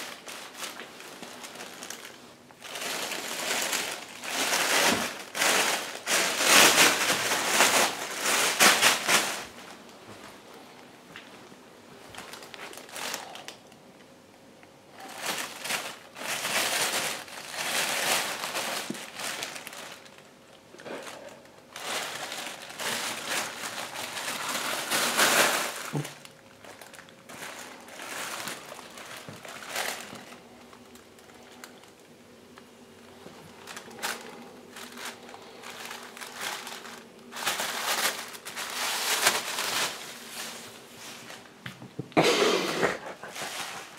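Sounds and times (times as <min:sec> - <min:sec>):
plastic bag crinkling: 0:00.0 - 0:13.9, 0:14.9 - 0:42.1, 0:43.0 - 0:43.9.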